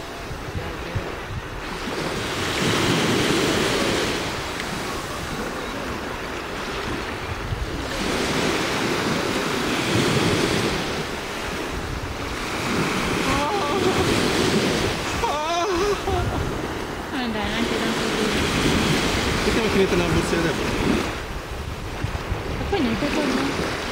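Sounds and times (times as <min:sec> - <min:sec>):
small sea waves lapping: 0:00.0 - 0:23.9
wind buffeting microphone: 0:00.0 - 0:23.9.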